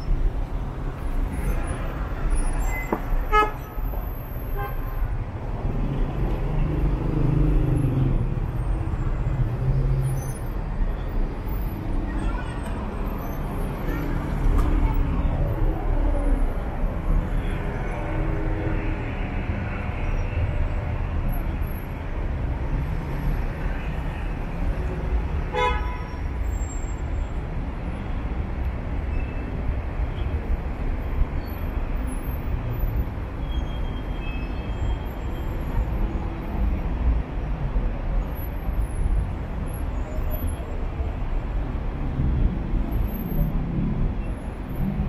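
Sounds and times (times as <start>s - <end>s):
traffic rumble: 0.0s - 45.0s.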